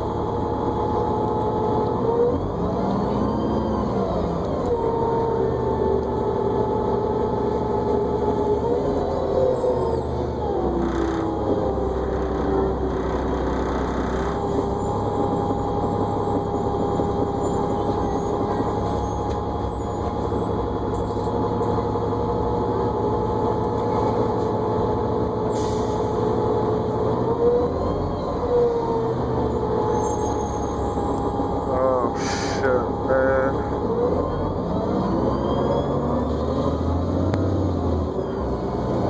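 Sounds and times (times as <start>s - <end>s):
bus engine rumble: 0.0s - 39.0s
bus whine: 0.0s - 39.0s.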